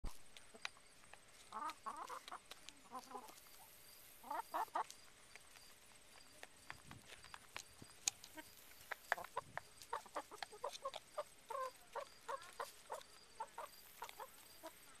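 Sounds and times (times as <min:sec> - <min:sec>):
hens clucking: 0:00.1 - 0:15.0.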